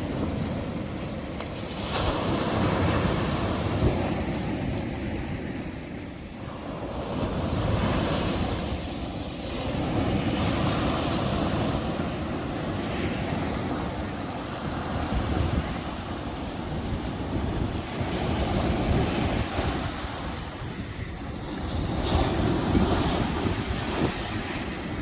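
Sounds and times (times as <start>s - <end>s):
waves breaking on beach: 0.0s - 25.0s
wind on microphone: 0.0s - 25.0s.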